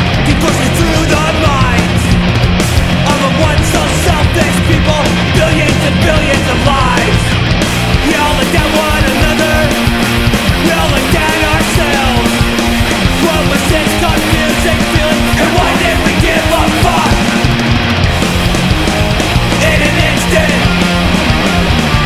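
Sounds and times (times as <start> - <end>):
punk rock song: 0.0 - 22.0.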